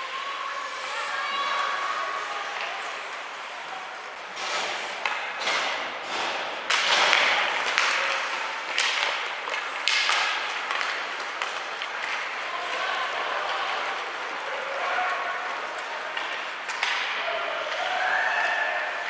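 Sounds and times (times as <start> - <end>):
skate blades scraping ice: 0.2 - 18.8
hockey sticks and puck clacking: 0.8 - 19.0.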